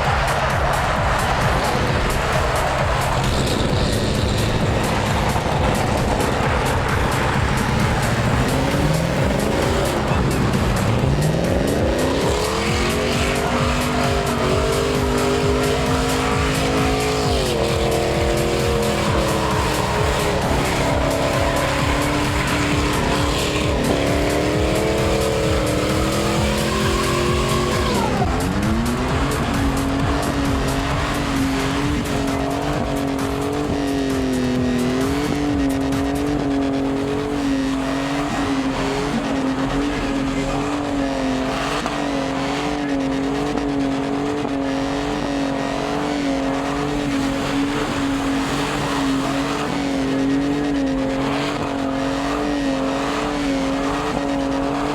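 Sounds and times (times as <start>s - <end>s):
engine rumble: 0.0s - 54.9s
tires squealing: 0.0s - 54.9s.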